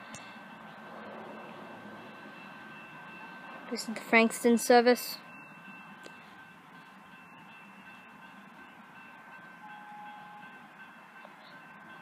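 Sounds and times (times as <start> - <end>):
faint platform ambience: 0.0 - 12.0.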